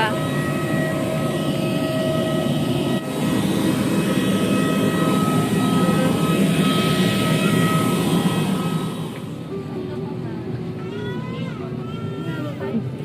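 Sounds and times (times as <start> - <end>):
airliner engines running: 0.0 - 13.0.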